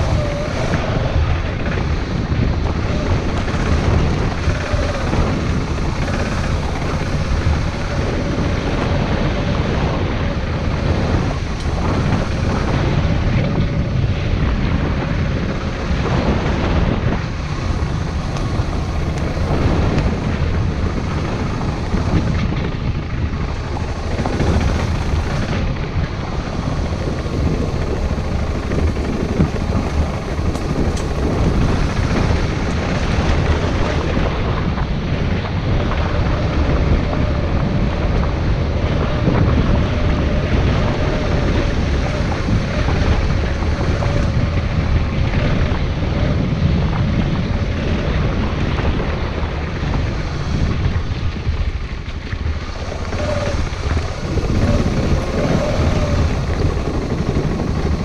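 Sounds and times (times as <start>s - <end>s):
steady low rumble: 0.0s - 58.0s
wind buffeting microphone: 0.0s - 58.0s.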